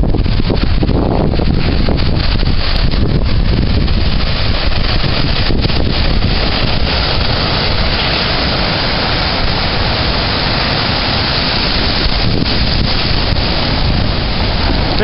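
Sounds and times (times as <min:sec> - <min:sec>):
heavy surf rushing: 0:00.0 - 0:15.0
wind buffeting microphone: 0:00.0 - 0:15.0.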